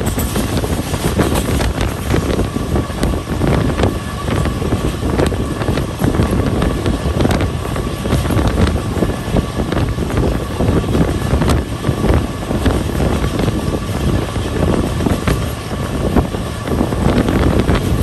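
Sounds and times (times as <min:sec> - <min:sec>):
train wheels rumbling and rattling: 0:00.0 - 0:18.0
wind buffeting microphone: 0:00.0 - 0:18.0.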